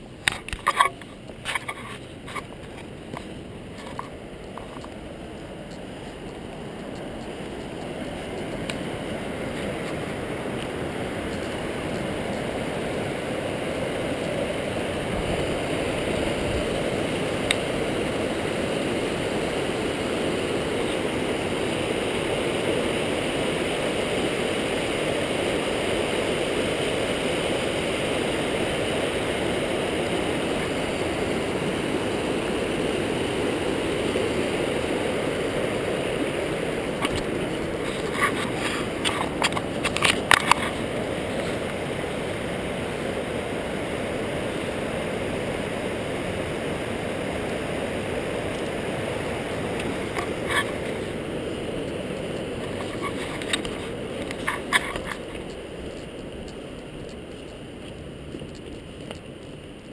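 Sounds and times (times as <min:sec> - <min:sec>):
river rushing over boulders: 0:00.0 - 0:59.9.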